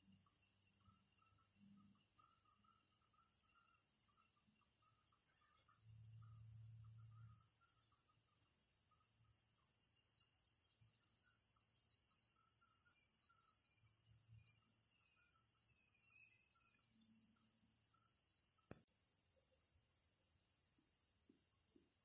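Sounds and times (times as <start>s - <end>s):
bird chirps: 0.0s - 22.0s
crickets and insects chirping: 0.0s - 22.0s.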